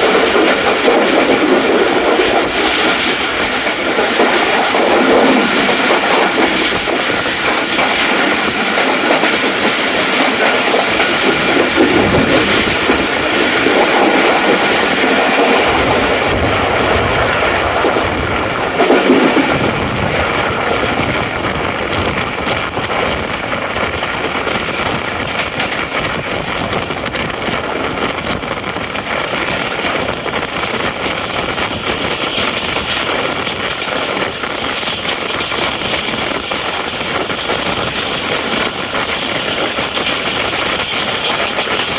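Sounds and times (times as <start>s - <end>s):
train rolling along track: 0.0s - 41.9s.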